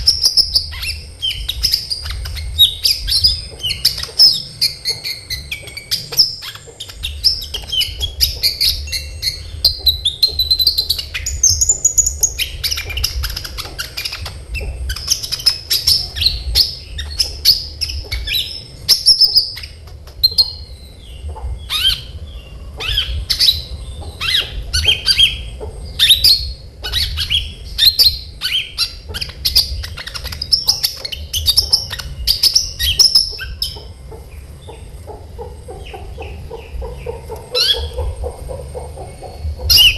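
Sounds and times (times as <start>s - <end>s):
steady low hum: 0.0s - 39.9s
sunbird singing: 0.0s - 39.9s.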